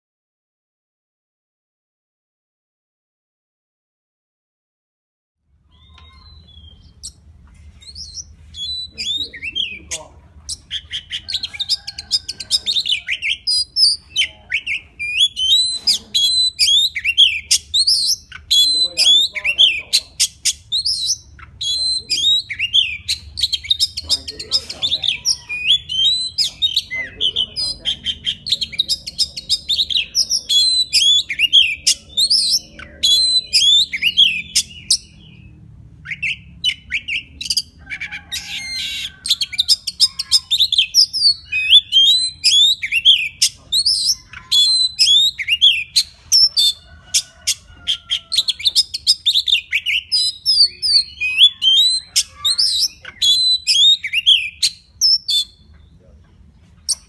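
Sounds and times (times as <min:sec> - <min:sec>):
magpie-robin singing: 0:05.6 - 0:57.0.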